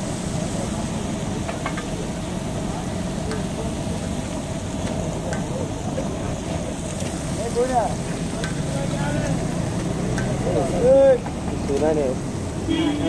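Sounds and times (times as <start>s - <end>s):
food sizzling on a griddle: 0.0s - 13.0s
street rumble: 0.0s - 13.0s.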